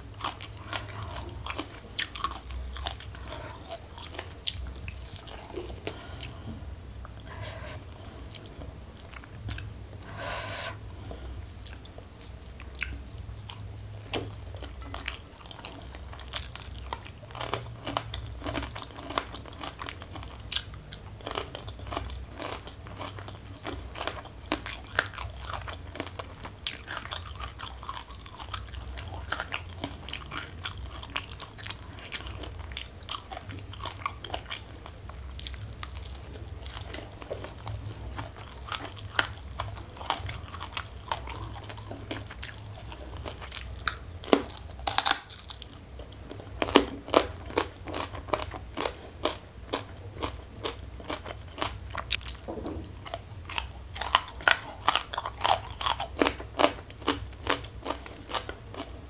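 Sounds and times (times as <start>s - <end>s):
person chewing and crunching food: 0.0s - 59.0s
steady low hum: 0.0s - 59.0s.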